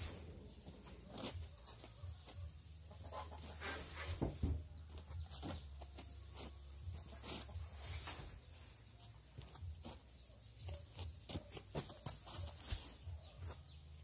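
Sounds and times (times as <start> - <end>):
dry hay rustling and crackling: 0.0 - 14.0.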